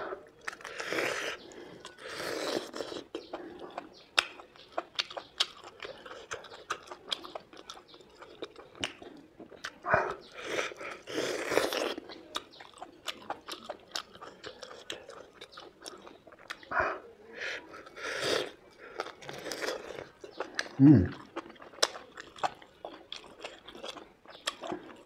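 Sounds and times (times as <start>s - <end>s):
close-up chewing and biting: 0.0s - 25.0s.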